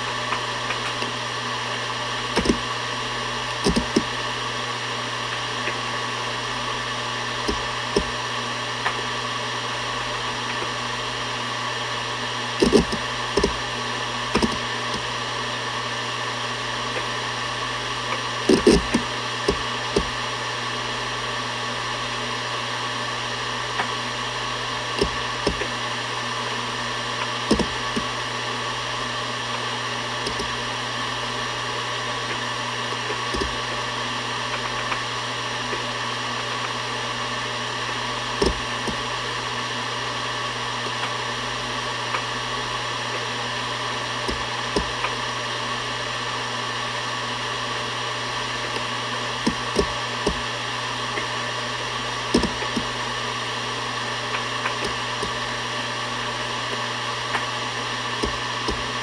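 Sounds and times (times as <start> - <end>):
hard drive seek ticks: 0.0 - 22.2, 23.4 - 59.0
hard drive spinning hum: 0.0 - 59.0.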